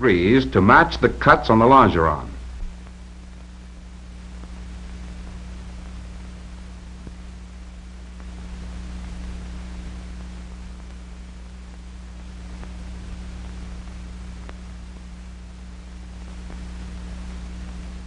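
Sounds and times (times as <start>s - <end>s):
film soundtrack hiss: 0.0s - 18.0s
low hum: 0.0s - 18.0s.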